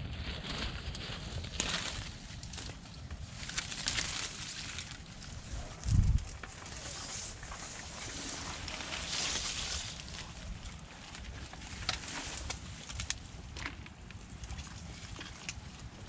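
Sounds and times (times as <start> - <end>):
leaves and twigs rustling: 0.0 - 16.0.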